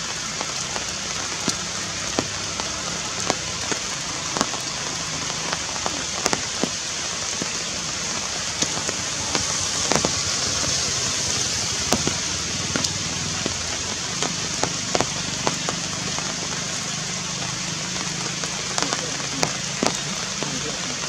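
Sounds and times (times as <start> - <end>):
rain on leaves: 0.0 - 21.0
raindrops striking close by: 0.0 - 21.0.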